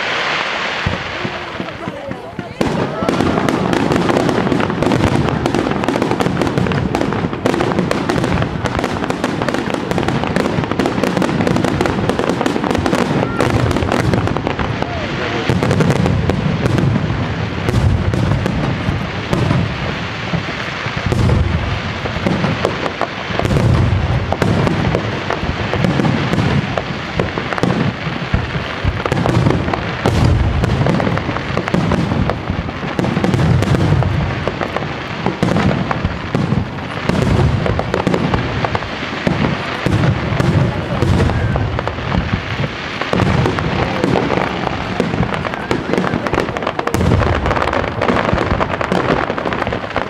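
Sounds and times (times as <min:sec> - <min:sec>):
firework booms: 0:00.0 - 0:50.0
firework crackling: 0:00.0 - 0:50.0.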